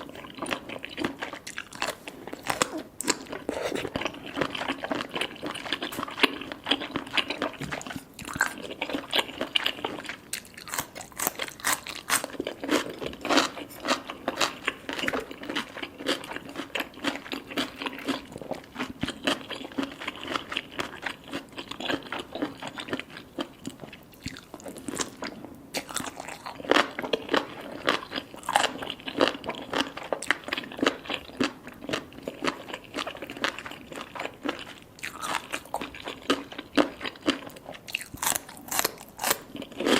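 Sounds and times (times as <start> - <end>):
chewing with wet crunches: 0.0 - 39.9.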